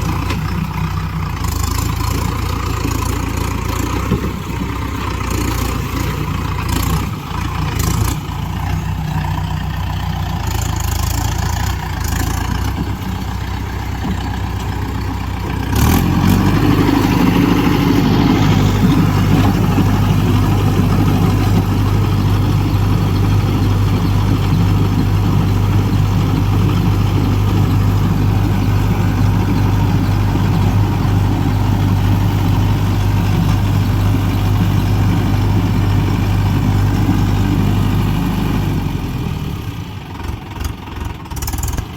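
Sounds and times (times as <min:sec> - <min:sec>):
diesel tractor engine running: 0:00.0 - 0:41.9.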